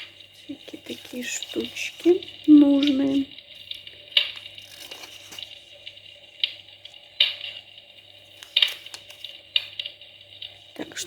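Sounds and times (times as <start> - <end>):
fire crackling in a fireplace: 0.0 - 11.0.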